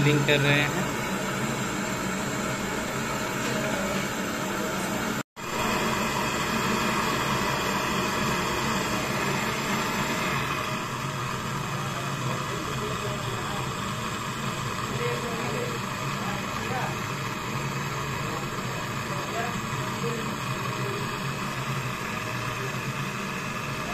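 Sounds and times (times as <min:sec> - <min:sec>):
torch flame hissing: 0:00.0 - 0:23.9.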